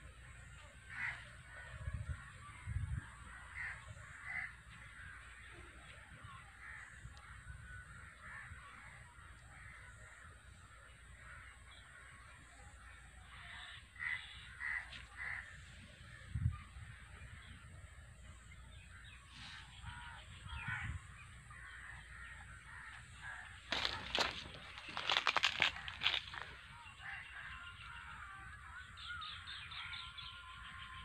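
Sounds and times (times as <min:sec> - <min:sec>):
harsh caw-like bird calls: 0:00.1 - 0:31.0.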